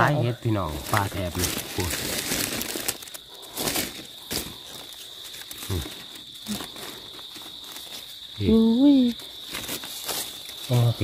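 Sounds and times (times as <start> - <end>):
high-pitched insect drone: 0.0 - 11.0
dry leaves rustling and crunching: 0.7 - 8.4, 9.0 - 11.0.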